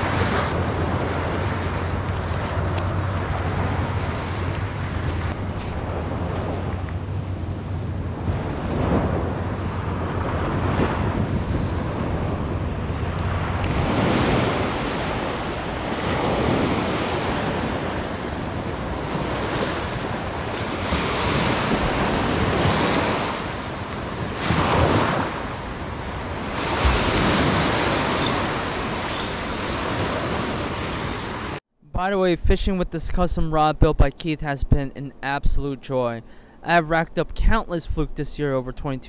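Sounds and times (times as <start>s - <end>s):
waves breaking on beach: 0.0s - 31.6s
wind buffeting microphone: 0.0s - 31.6s.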